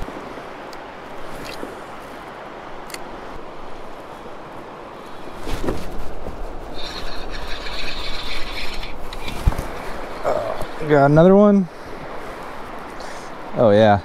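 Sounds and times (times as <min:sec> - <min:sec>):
water and air noise: 0:00.0 - 0:14.0.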